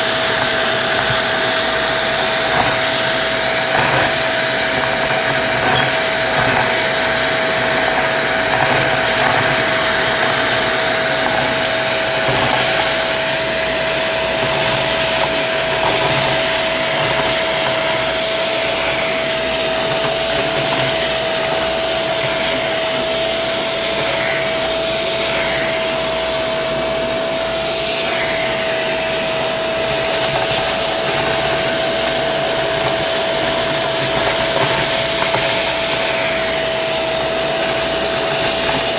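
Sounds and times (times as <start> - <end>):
debris rattling up vacuum tube: 0.0 - 26.7, 28.2 - 38.9
vacuum cleaner whine and suction: 0.0 - 38.9.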